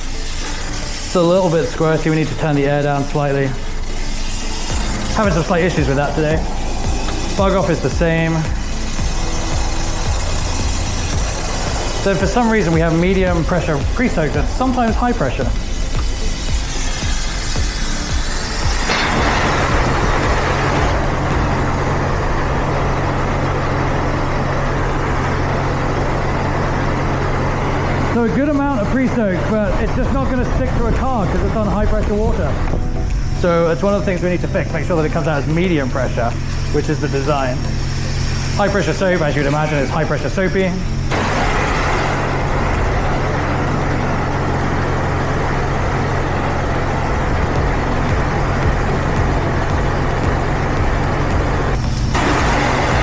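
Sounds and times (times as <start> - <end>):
spray wand hissing: 0.0 - 53.0
steady low hum: 0.0 - 53.0.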